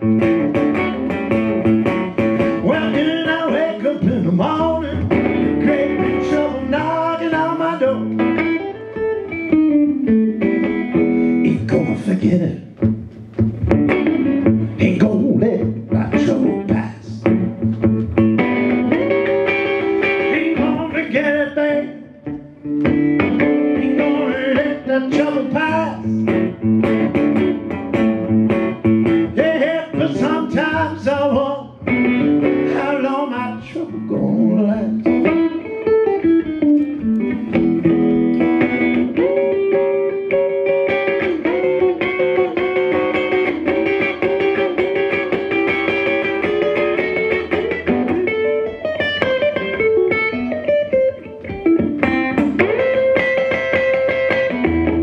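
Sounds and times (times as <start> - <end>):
blues on resonator guitar: 0.0 - 55.0.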